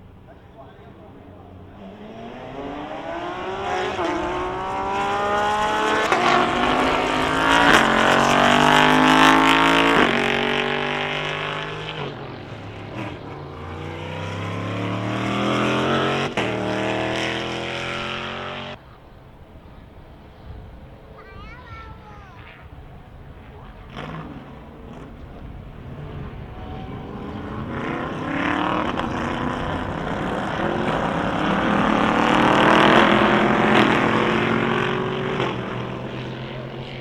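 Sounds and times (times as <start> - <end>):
race car engine accelerating: 0.0 - 18.8, 22.8 - 37.0.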